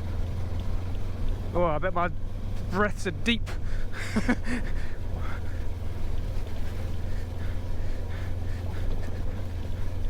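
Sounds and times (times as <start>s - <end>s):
motorcycle engine low rumble: 0.0s - 10.0s.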